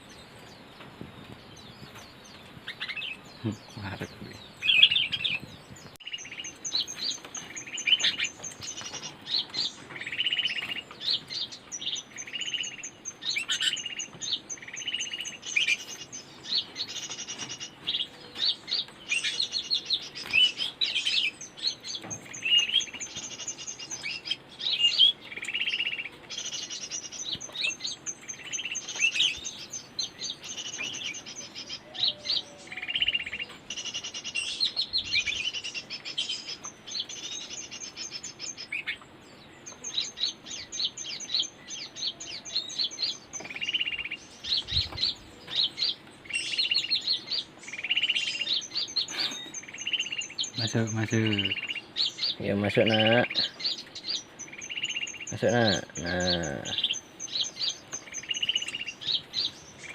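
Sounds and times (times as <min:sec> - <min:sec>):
bird chirping and twittering: 0:00.0 - 0:59.9.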